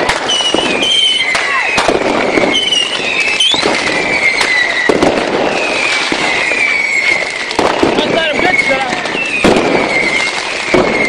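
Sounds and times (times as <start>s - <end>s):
fireworks bangs and crackling: 0.0s - 11.0s
fireworks whistles falling in pitch: 0.0s - 11.0s.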